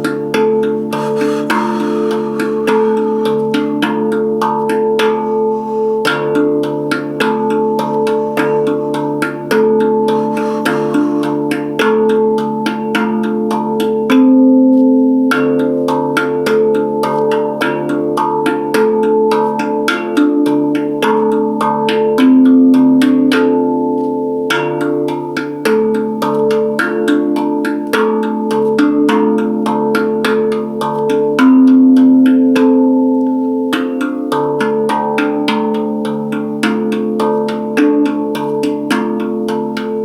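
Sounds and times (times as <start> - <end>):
handpan notes ringing: 0.0 - 40.0.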